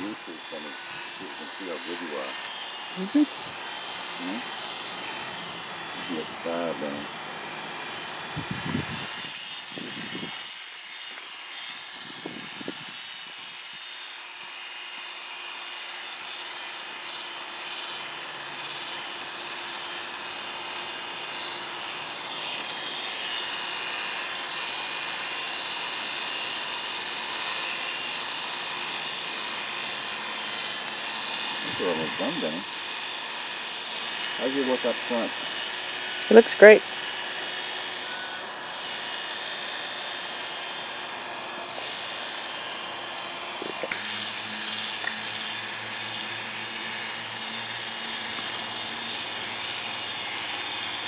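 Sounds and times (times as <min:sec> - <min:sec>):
electric clipper buzzing: 0:00.0 - 0:51.0.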